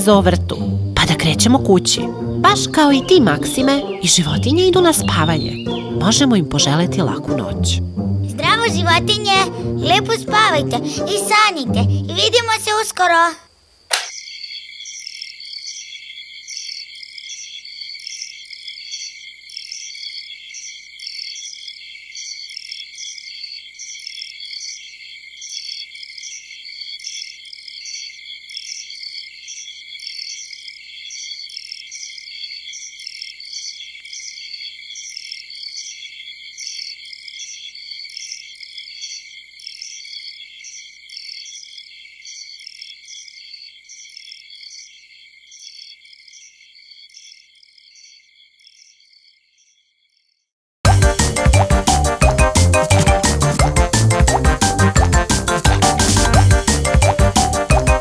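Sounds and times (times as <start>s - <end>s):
crickets chirping: 0.0s - 49.8s.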